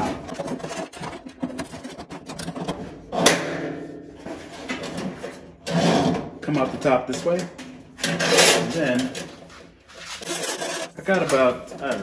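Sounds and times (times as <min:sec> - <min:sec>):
metal cable scraping and clicking: 0:00.0 - 0:02.9, 0:04.6 - 0:12.0.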